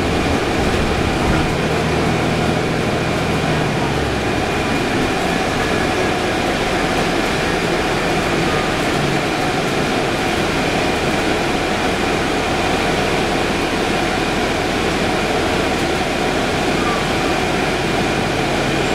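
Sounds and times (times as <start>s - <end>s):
bus drivetrain hum: 0.0s - 18.9s
road and tyre noise: 0.0s - 18.9s.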